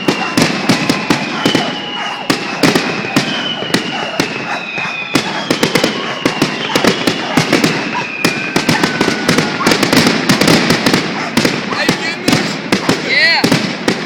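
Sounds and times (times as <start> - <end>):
fireworks bangs and crackles: 0.0 - 14.0
fireworks whistling: 0.0 - 14.0.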